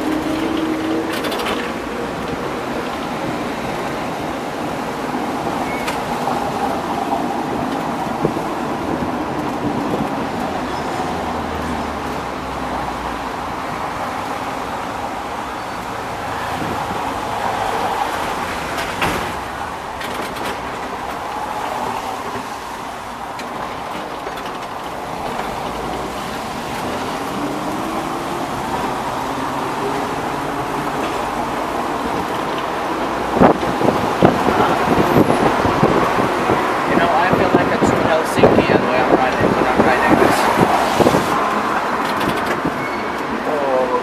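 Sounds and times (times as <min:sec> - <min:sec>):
tram rumbling on rails: 0:00.0 - 0:44.0.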